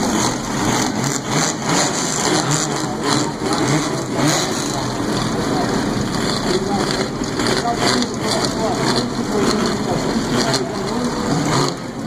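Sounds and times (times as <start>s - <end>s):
car engines rumbling loudly: 0.0s - 12.0s.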